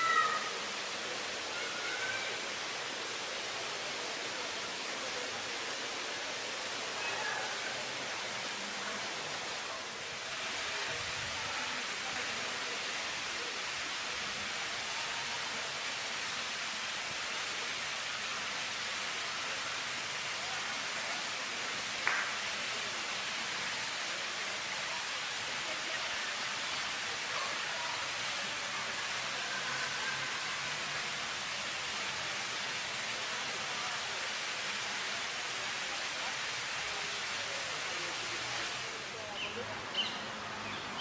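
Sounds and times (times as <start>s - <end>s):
fountain water splashing: 0.0s - 41.0s.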